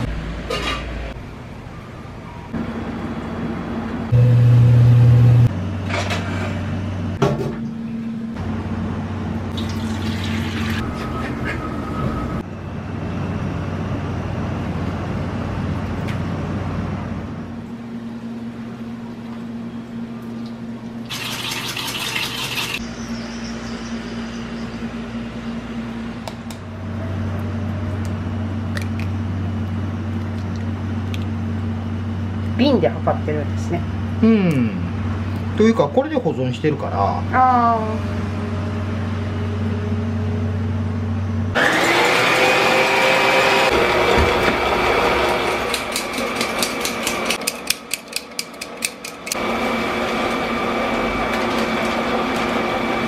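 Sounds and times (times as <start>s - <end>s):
hum of kitchen fans: 0.0s - 53.0s.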